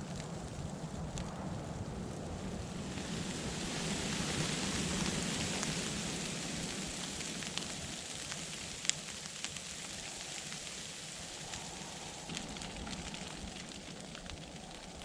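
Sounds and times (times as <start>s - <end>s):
hiss of wind-driven snow: 0.0s - 15.0s.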